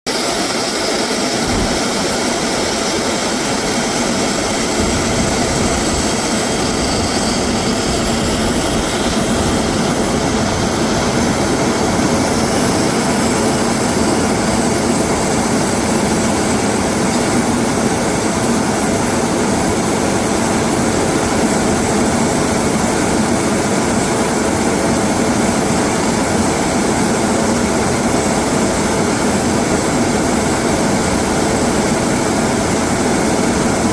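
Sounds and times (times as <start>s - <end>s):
turboprop engines droning: 0.1s - 33.9s.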